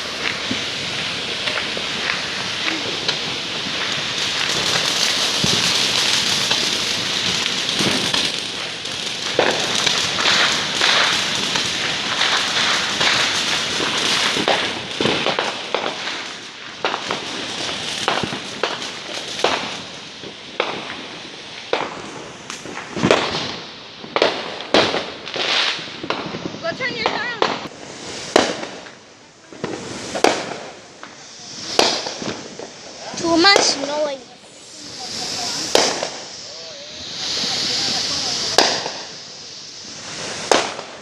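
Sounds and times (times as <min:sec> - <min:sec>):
fireworks hissing and crackling: 0:00.0 - 0:41.0
fireworks pops and cracks: 0:00.0 - 0:41.0.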